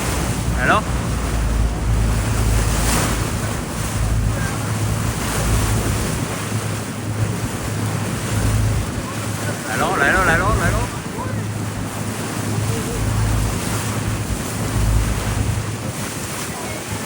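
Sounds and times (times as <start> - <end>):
boat engine humming: 0.0 - 17.0
waves washing: 0.0 - 17.0
wind buffeting the microphone: 0.0 - 17.0.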